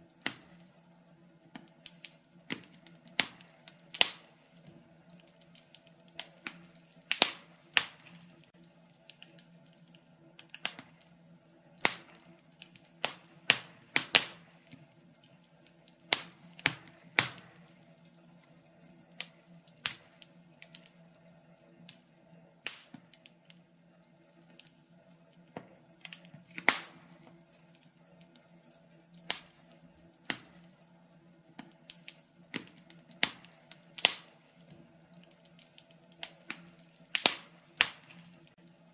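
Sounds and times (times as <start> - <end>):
faint steady hum: 0.0 - 38.9
wood fire crackling: 0.0 - 38.9.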